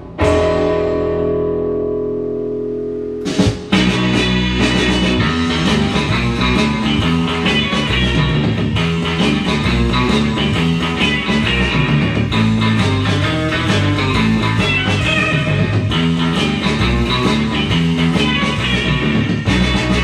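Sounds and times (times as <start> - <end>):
rock and roll music: 0.0 - 20.0.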